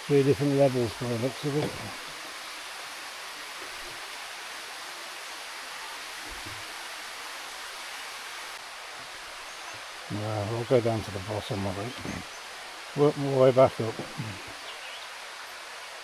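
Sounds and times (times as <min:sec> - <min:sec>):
waterfall hiss: 0:00.0 - 0:16.0.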